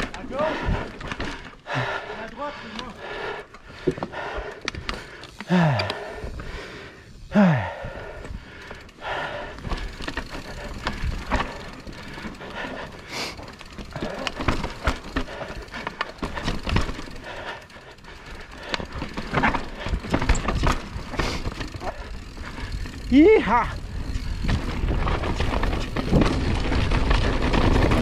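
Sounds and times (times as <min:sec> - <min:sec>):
mountain bike clattering: 0:00.0 - 0:06.6, 0:07.8 - 0:28.0
rider breathing hard: 0:00.0 - 0:23.1, 0:23.7 - 0:28.0.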